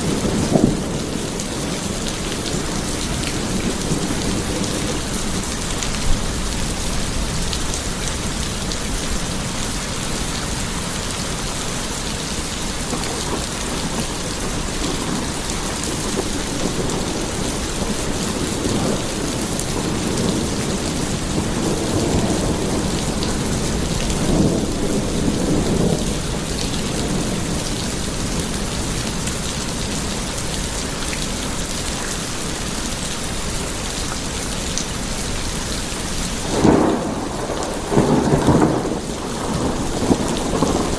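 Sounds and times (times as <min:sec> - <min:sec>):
low rolling thunder: 0:00.0 - 0:31.8, 0:35.0 - 0:40.9
heavy rain: 0:00.0 - 0:40.9.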